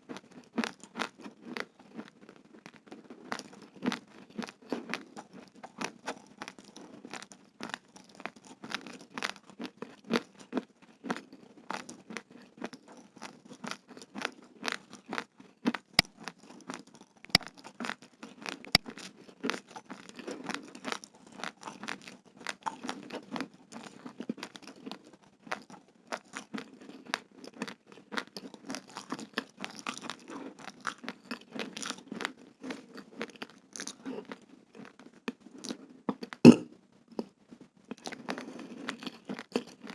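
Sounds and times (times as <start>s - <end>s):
crunching of raw rice being chewed: 0.0s - 39.9s.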